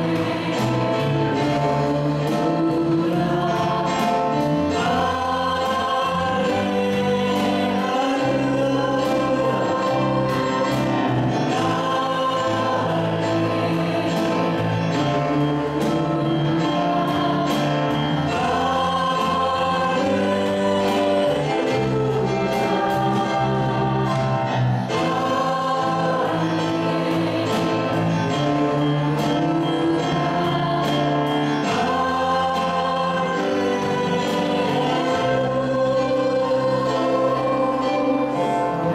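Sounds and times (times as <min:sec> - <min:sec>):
drum kit with cymbals: 0:00.0 - 0:38.9
group singing worship song: 0:00.0 - 0:38.9
guitar: 0:00.0 - 0:38.9
keyboards: 0:00.0 - 0:38.9.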